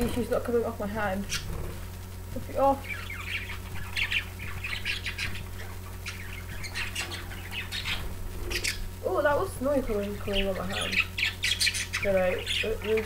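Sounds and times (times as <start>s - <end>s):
wings fluttering: 0.0s - 13.0s
budgerigars chirping: 1.2s - 1.7s, 2.5s - 13.0s.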